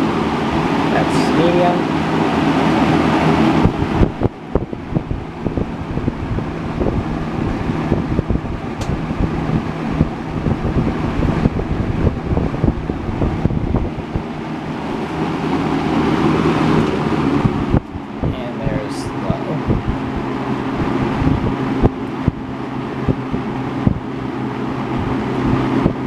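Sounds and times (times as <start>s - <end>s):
air buffeting microphone: 0.0s - 26.0s
box fan motor humming: 0.0s - 26.0s.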